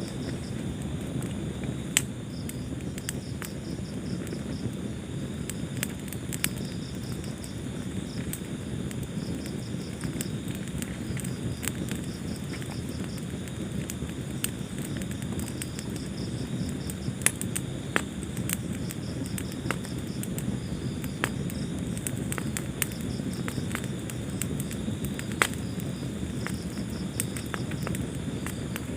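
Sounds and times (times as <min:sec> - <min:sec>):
fire crackling and popping: 0:00.0 - 0:28.9
rush of flames: 0:00.0 - 0:28.9.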